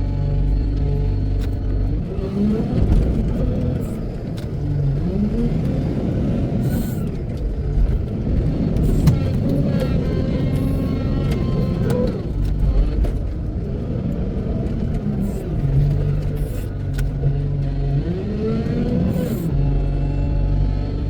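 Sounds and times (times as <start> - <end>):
diesel engine revving: 0.0 - 21.0.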